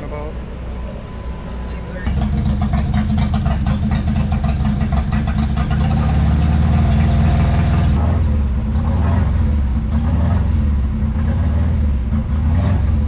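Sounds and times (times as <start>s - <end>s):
engine idling: 2.0s - 13.0s.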